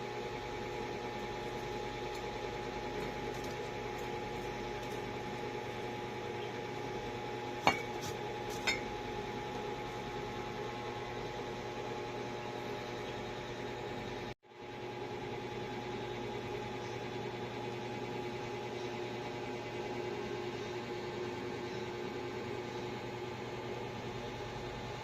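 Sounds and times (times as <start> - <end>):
steady hum with held tones: 0.0 - 25.0.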